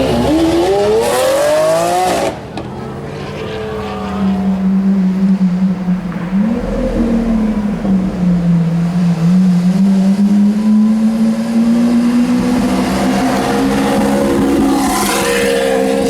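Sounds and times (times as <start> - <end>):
car engine droning: 2.2 - 16.0.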